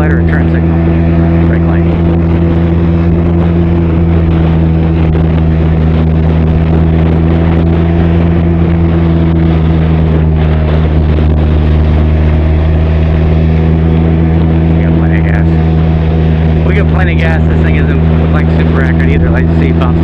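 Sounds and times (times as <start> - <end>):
motorcycle engine running steadily: 0.0 - 20.0.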